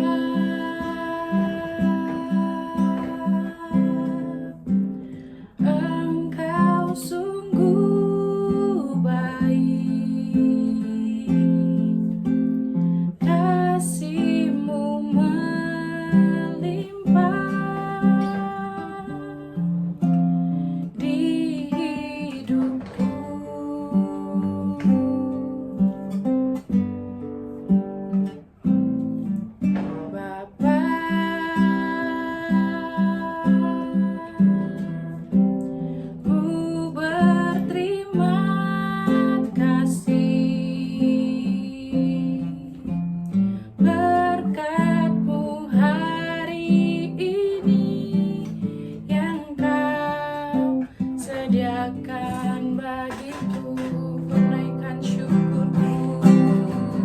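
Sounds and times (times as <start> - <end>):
person singing: 0.0 - 4.7, 5.5 - 12.2, 13.2 - 19.8, 20.9 - 25.8, 29.8 - 35.4, 36.2 - 42.9, 43.8 - 57.0
acoustic guitar strumming: 0.0 - 57.0.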